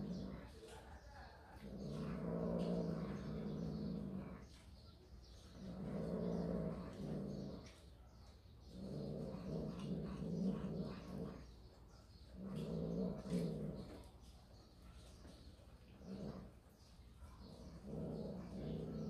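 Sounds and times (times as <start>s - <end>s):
cat growling low: 0.0s - 4.7s, 5.4s - 7.9s, 8.6s - 14.2s, 15.8s - 19.0s.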